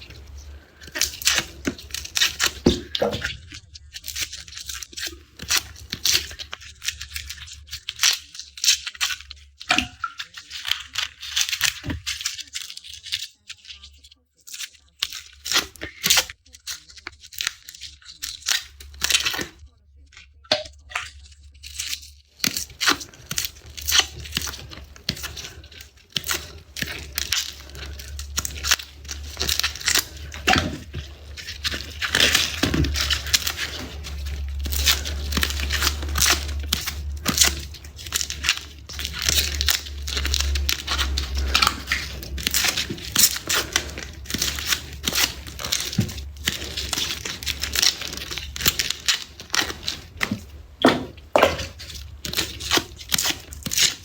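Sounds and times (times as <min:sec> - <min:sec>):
garlic skins crackling: 0:00.0 - 0:13.9, 0:14.5 - 0:54.0.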